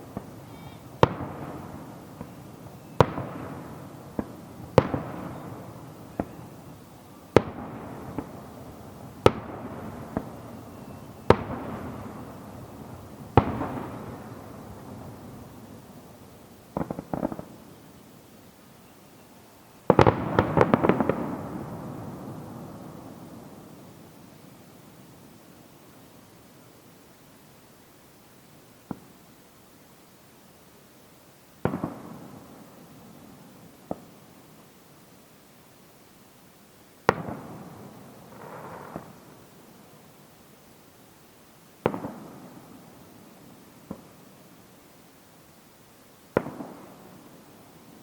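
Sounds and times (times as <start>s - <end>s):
fireworks bursting with bangs: 0.0s - 19.2s, 19.8s - 26.3s, 28.8s - 29.3s, 31.6s - 35.0s, 37.0s - 40.4s, 41.6s - 45.4s, 46.2s - 48.0s
rumble after fireworks: 0.0s - 29.9s, 31.2s - 48.0s.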